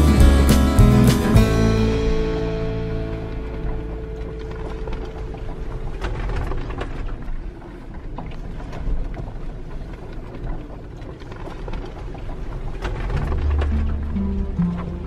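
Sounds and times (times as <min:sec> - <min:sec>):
water wash: 0:00.0 - 0:15.0.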